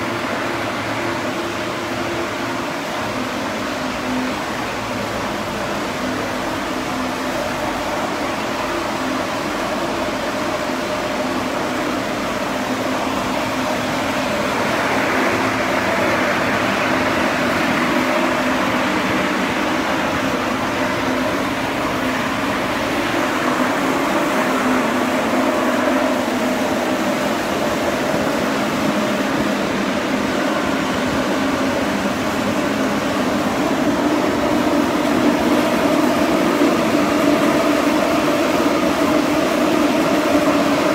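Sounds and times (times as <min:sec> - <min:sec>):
cooling fan running: 0:00.0 - 0:40.9.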